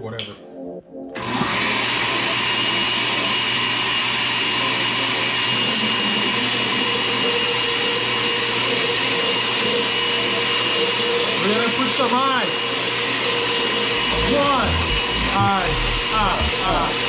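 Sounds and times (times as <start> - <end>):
blender running: 1.2 - 17.0.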